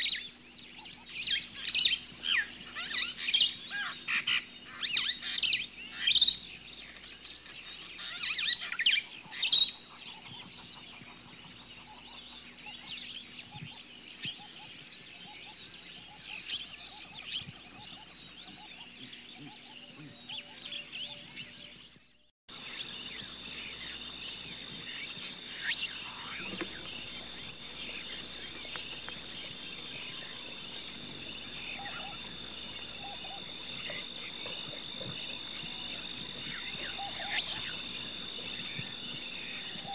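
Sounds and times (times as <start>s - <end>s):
birds chirping: 0.0s - 39.9s
pulsing high-pitched wildlife chorus: 0.0s - 39.9s.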